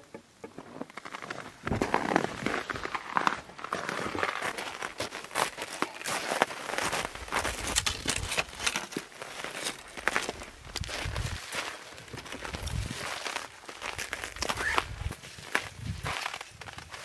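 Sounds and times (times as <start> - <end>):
crunching on icy snow: 0.7 - 17.0.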